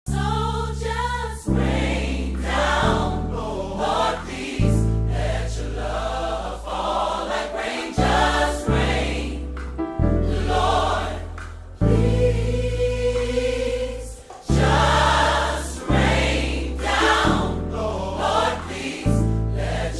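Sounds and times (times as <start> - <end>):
deep bass line: 0.1 - 5.7, 8.0 - 19.9
choir singing gospel: 0.1 - 19.9.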